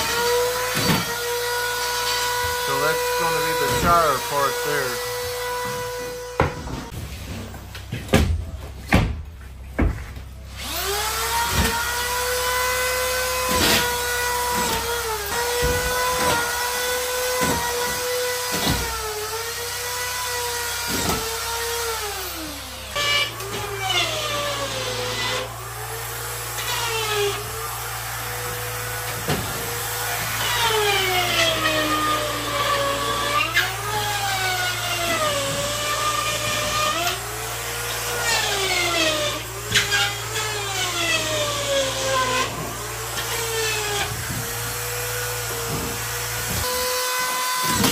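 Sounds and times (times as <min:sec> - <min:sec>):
power tool whining: 0:00.0 - 0:07.0, 0:10.5 - 0:47.9.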